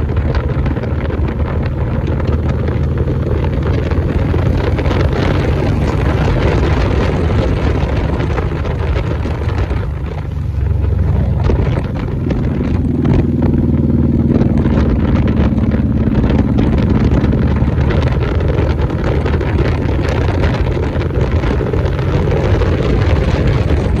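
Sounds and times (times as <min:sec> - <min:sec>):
motorcycle engine running: 0:00.0 - 0:24.0
wind rush on microphone: 0:00.0 - 0:24.0.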